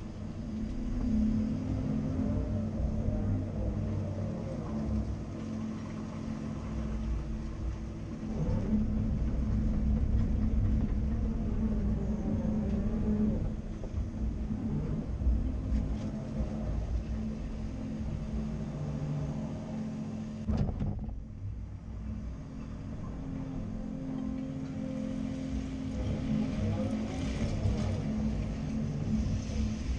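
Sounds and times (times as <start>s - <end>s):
excavator diesel engine: 0.0s - 29.9s.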